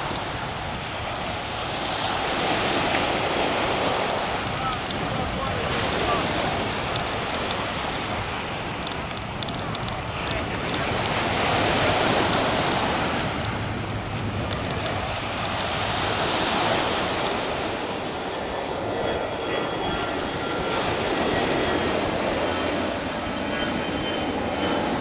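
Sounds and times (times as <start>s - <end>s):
jet airliner engine whine: 0.0s - 25.0s
waves breaking on a beach: 0.0s - 25.0s.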